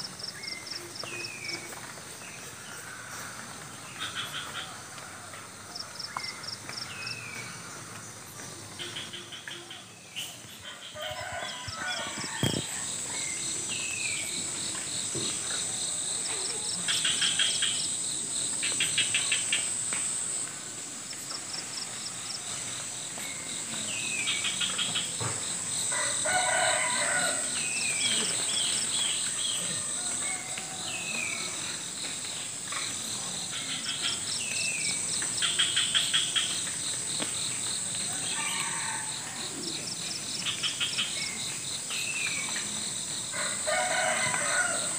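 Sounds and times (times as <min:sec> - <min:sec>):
insects droning and chirping: 0:00.0 - 0:44.9.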